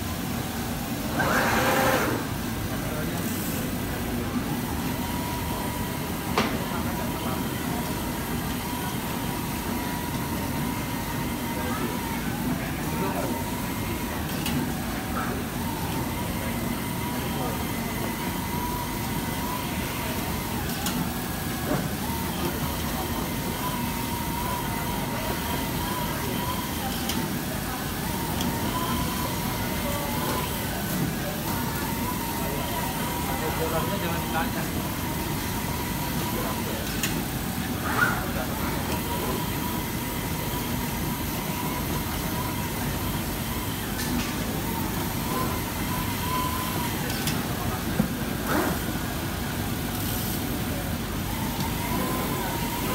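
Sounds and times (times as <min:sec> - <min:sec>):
fabric cutting machine running: 0:00.0 - 0:52.9.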